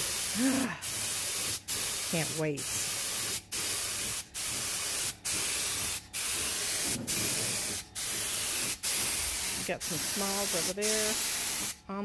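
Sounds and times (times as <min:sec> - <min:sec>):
paint spray gun hissing: 0:00.0 - 0:11.8.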